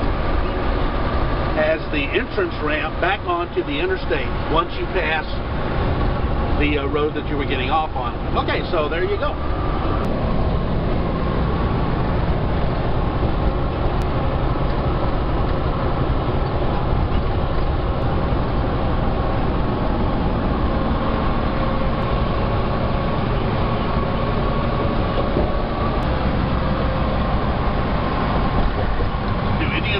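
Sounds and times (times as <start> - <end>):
road noise: 0.0 - 29.9
truck engine drone: 0.0 - 29.9.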